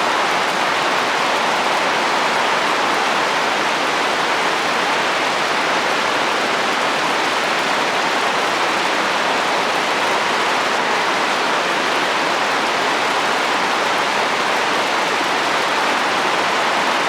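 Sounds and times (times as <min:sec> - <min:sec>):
rain on a roof: 0:00.0 - 0:17.0.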